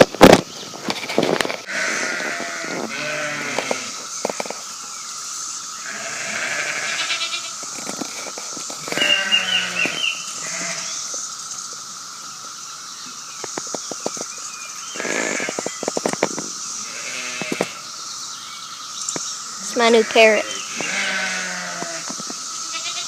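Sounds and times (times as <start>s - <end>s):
cicadas droning: 0.0s - 23.0s
short wavering insect calls: 0.0s - 23.0s.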